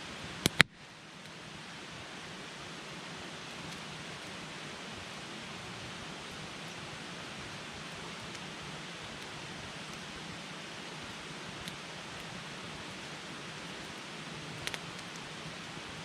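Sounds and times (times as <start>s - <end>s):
campfire hissing: 0.0s - 16.0s
faint fire crackles: 0.0s - 16.0s.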